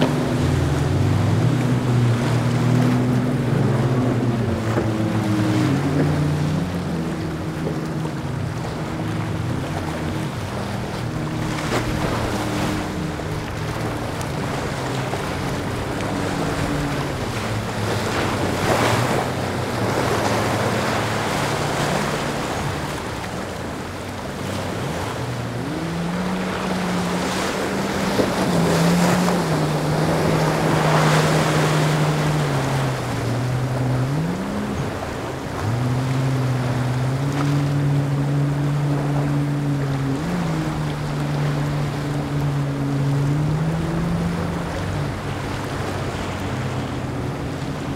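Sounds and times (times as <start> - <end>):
boat engine running: 0.0 - 47.9
waves splashing: 0.0 - 47.9.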